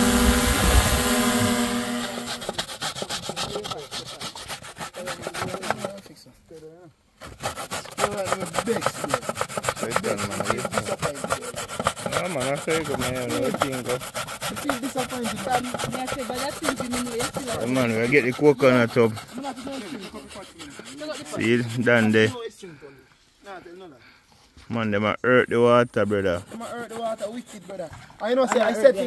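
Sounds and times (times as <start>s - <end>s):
coconut flesh being scraped: 0.0s - 6.2s, 7.2s - 22.4s, 26.0s - 29.0s.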